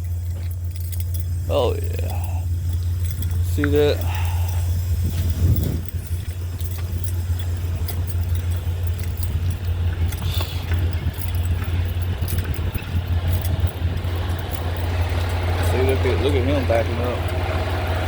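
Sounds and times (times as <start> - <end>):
diesel engine idling: 0.0 - 18.0
light clicks and rattles: 0.0 - 18.0.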